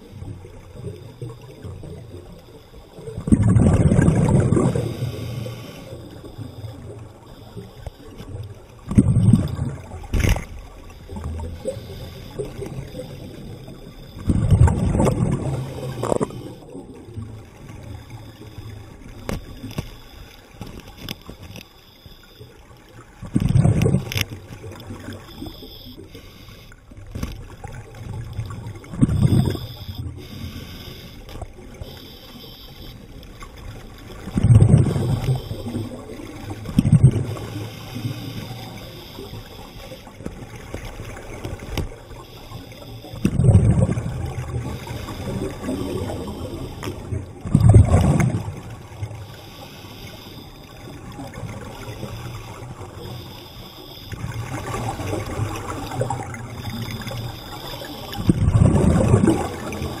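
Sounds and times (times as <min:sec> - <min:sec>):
low water rush: 0:00.0 - 1:00.0
underwater air bubbling: 0:00.0 - 1:00.0.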